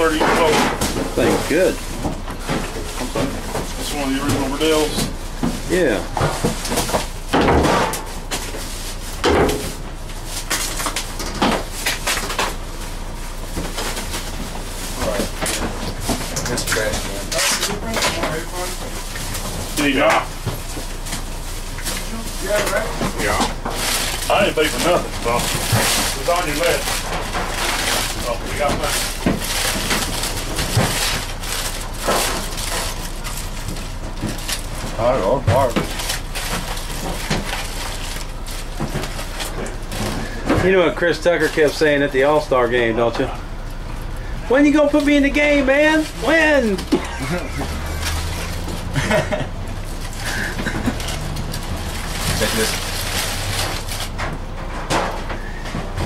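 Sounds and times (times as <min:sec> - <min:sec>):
noisy background: 0:00.0 - 0:56.0.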